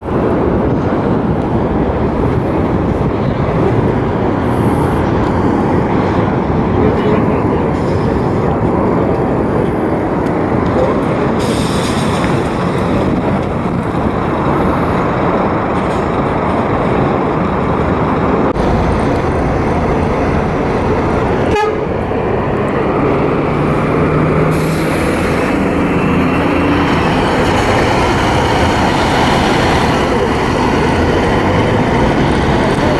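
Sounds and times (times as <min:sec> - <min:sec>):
coach engine rumbling: 0:00.0 - 0:32.9.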